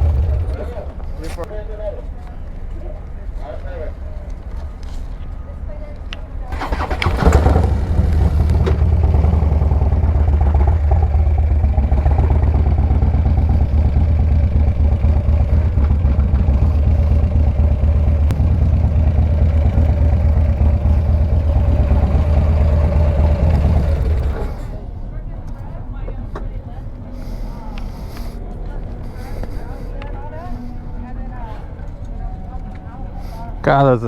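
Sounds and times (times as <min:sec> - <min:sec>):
motorcycle engine rumbling: 0:00.0 - 0:01.4, 0:06.4 - 0:34.0.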